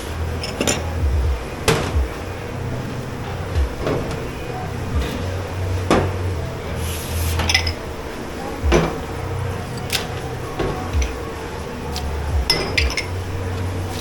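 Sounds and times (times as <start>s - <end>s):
crockery and glassware clinking: 0.0s - 2.3s, 3.0s - 14.0s
low steady hum: 0.0s - 14.0s.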